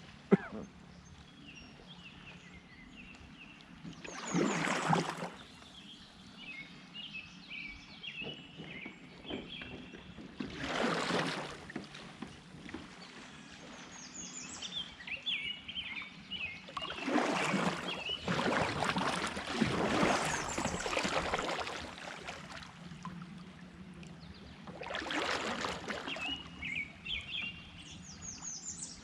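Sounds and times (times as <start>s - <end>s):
kayak swishing through water: 1.1s - 29.0s.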